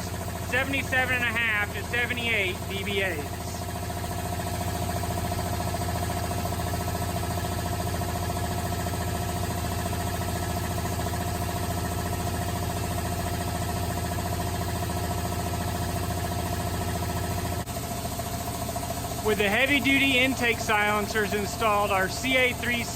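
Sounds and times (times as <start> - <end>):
air compressor running: 0.0 - 22.9.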